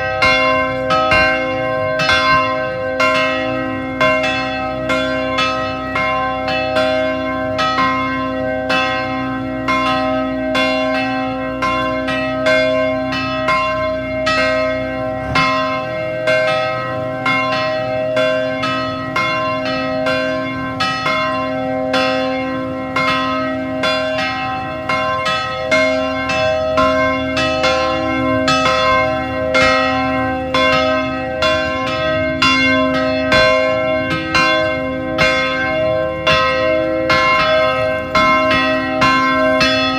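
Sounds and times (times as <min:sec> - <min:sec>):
carillon bells ringing: 0:00.0 - 0:39.9.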